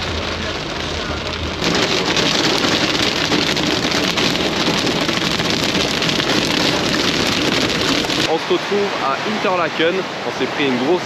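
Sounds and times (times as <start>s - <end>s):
low road rumble: 0.0s - 10.4s
heavy rain on car roof: 0.0s - 11.0s.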